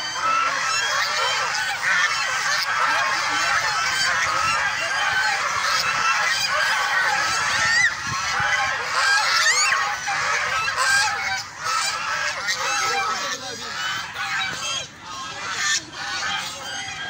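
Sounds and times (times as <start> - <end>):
ducks and geese honking and quacking: 0.0 - 17.0.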